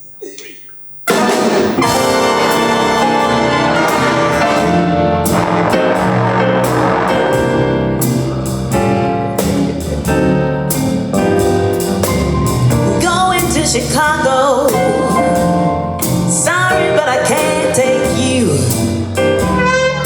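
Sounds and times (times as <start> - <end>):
jazz big band playing swing: 1.1 - 20.0.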